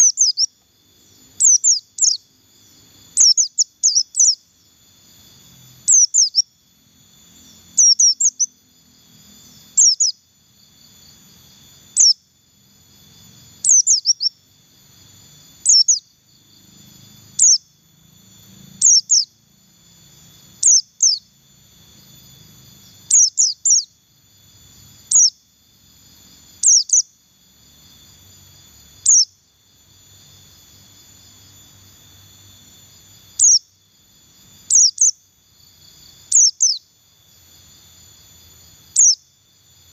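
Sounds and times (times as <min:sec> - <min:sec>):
bird chirping: 0:00.0 - 0:37.0, 0:37.6 - 0:39.9
faint insect whine: 0:00.0 - 0:39.9.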